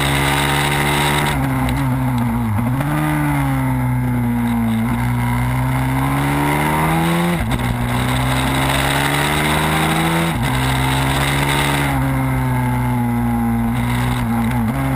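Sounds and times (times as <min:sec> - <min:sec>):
motorbike engine revving under load: 0:00.0 - 0:14.9.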